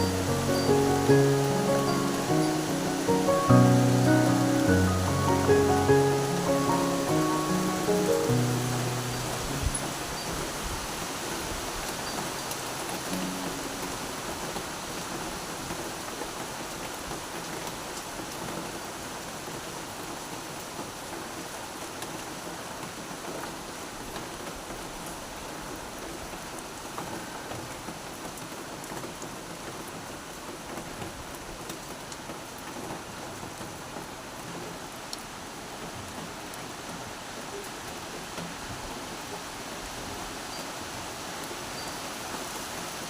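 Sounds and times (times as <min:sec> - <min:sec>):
raindrops ticking on surfaces: 0:00.0 - 0:43.0
steady rain hiss: 0:00.0 - 0:43.0.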